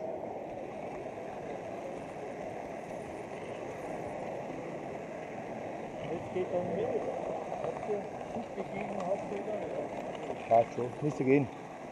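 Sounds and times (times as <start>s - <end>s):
model train wheels rumbling on track: 0.0s - 11.9s.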